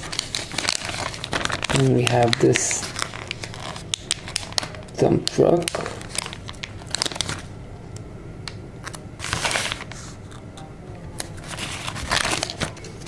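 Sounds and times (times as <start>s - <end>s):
paper rustling: 0.0s - 7.5s, 8.8s - 10.4s, 11.2s - 13.0s.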